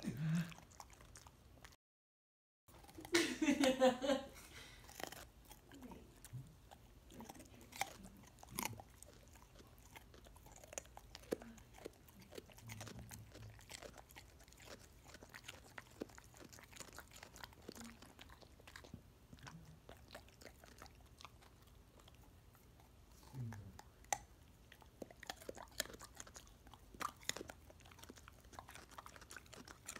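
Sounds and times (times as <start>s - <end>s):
dog crunching a carrot: 0.0s - 1.8s, 2.7s - 3.3s, 4.8s - 29.9s.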